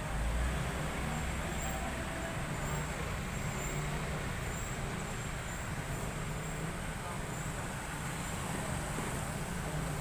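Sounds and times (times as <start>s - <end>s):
background noise: 0.0s - 10.0s
vehicle engine rumbling: 0.0s - 10.0s.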